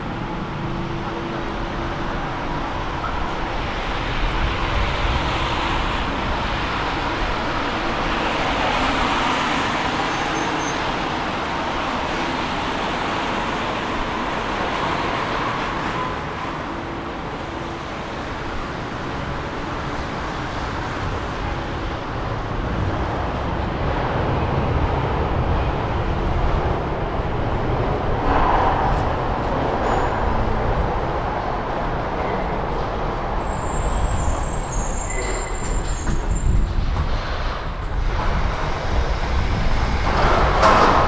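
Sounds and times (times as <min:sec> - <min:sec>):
metro train rumbling: 0:00.0 - 0:41.0.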